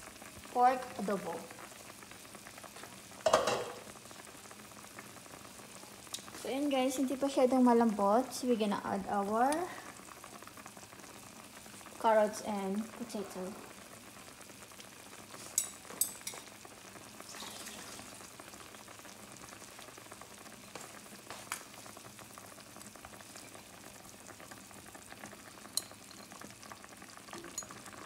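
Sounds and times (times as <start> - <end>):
sauce bubbling in skillet: 0.0 - 28.0.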